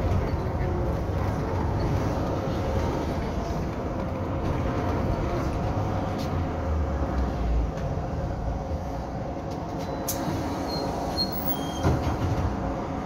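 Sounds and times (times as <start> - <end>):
trolleybus cabin hum: 0.0 - 13.0.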